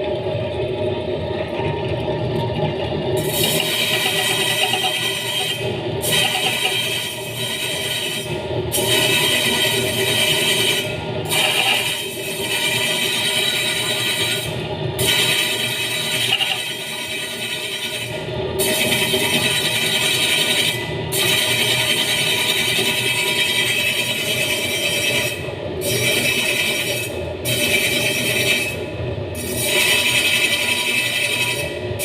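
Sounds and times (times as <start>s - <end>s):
electric meat slicer running: 2.7s - 32.0s.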